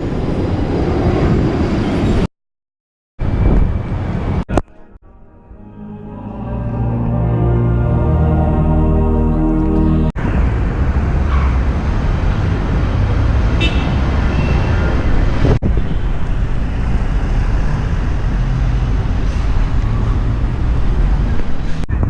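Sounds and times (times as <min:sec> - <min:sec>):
street traffic rumble: 0:00.0 - 0:02.3, 0:03.2 - 0:04.9, 0:06.3 - 0:22.0.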